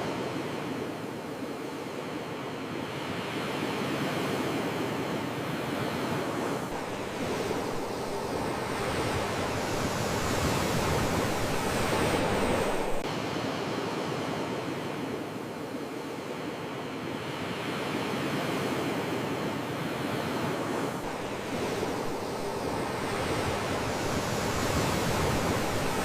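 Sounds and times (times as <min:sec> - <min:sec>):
sea waves washing in: 0:00.0 - 0:26.0.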